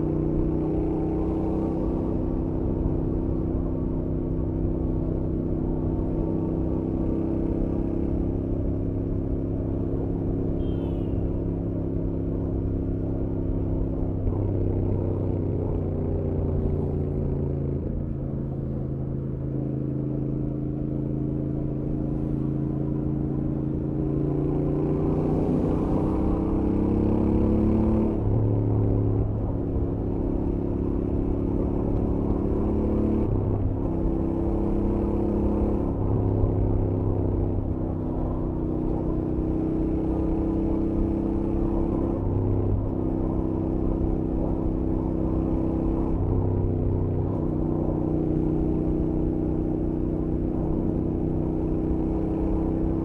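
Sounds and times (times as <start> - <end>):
motorcycle engine at speed: 0.0 - 53.0.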